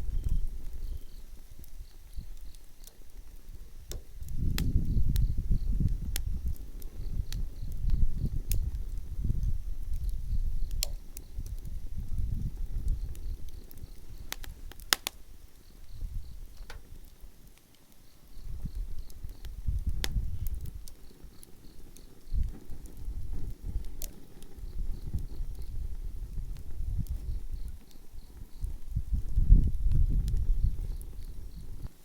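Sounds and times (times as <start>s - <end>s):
low rumble of flames: 0.0s - 32.0s
wood crackling and popping: 0.0s - 32.0s.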